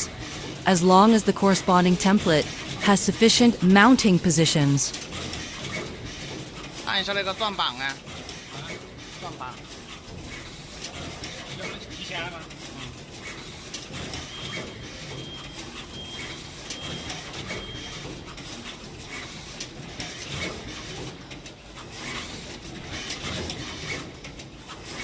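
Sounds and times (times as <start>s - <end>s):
mechanical clicks and clacks: 0.0s - 25.0s.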